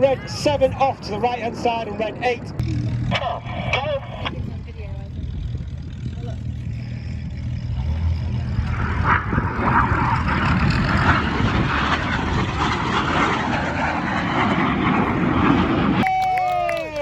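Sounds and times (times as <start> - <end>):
jets flying over: 0.0 - 17.0.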